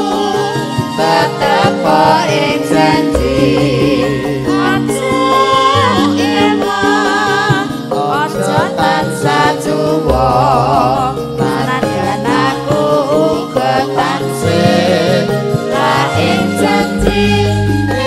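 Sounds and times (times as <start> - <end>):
keyboard accompaniment: 0.0 - 18.0
person singing with vibrato: 0.0 - 18.0
steady bass line: 0.0 - 18.0.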